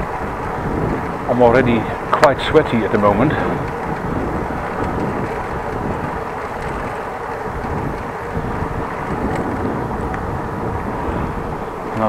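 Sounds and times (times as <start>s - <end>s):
bicycle tyre and road noise: 0.0s - 12.0s
wind rumble on microphone: 0.0s - 12.0s.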